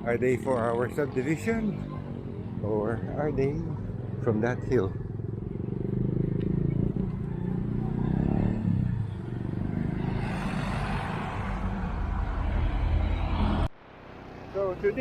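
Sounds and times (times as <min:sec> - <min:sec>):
vehicles passing on a street: 0:00.0 - 0:15.0.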